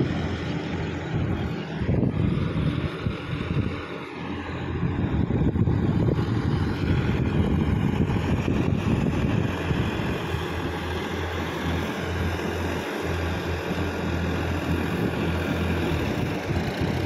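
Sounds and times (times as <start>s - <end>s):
wind buffeting microphone: 0.0s - 12.4s, 14.3s - 17.0s
tractor diesel engine running: 0.0s - 17.0s.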